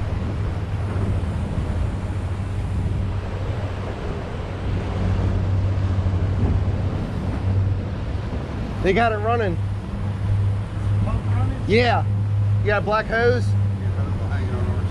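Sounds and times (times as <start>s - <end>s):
boat engine humming: 0.0s - 14.9s
water: 0.0s - 14.9s
wind buffeting microphone: 0.0s - 14.9s.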